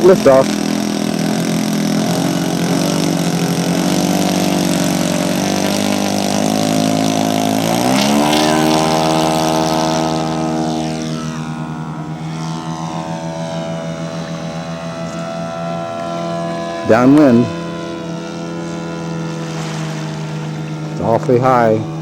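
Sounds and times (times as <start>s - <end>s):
model plane engine running: 0.0s - 22.0s.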